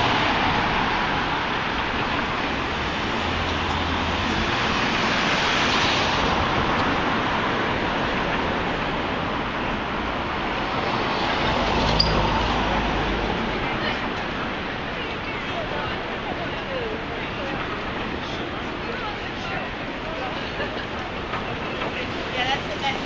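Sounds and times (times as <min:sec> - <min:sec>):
city traffic rushing: 0:00.0 - 0:23.0
wind: 0:00.0 - 0:23.0.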